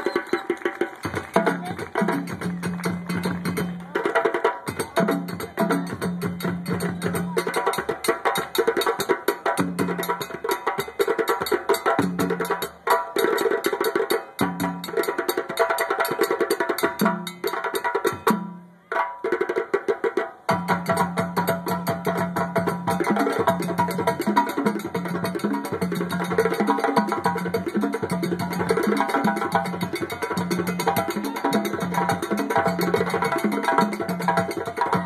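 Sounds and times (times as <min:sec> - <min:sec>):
drums playing fast rhythm: 0:00.0 - 0:35.0.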